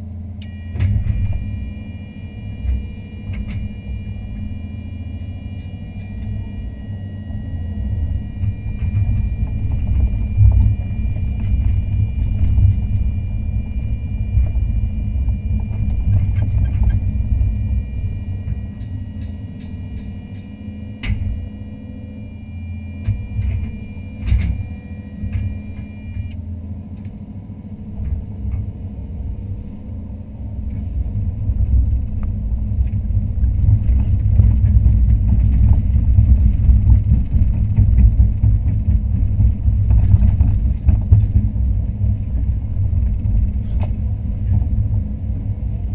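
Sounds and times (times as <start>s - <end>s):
excavator engine and hydraulics: 0.0s - 45.9s.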